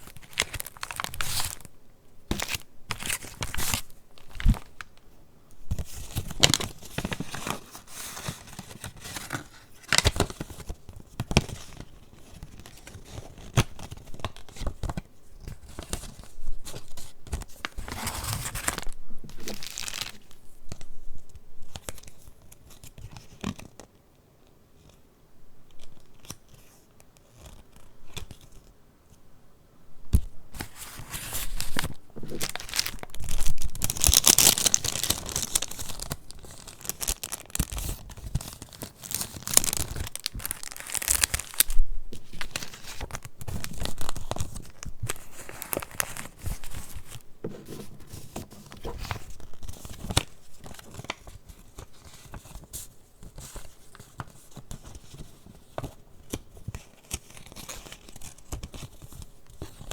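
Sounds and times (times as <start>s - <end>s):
paper pages rustling: 0.0s - 1.7s, 2.3s - 5.0s, 5.7s - 20.9s, 30.1s - 59.9s.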